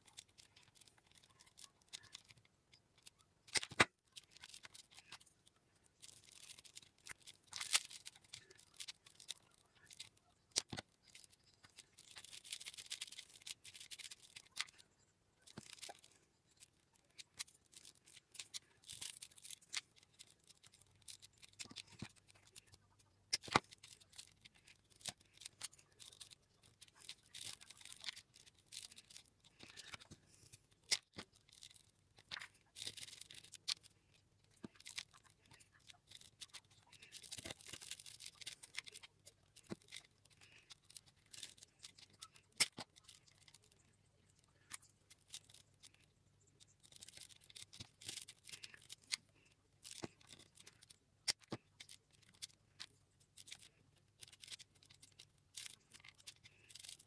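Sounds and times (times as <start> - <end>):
paper tubes rustling and scraping: 0.0 - 33.8, 34.5 - 43.8, 46.6 - 57.0.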